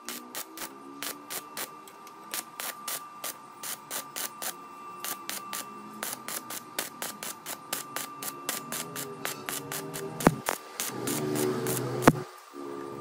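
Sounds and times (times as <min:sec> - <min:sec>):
arc welding crackling: 0:00.0 - 0:13.0.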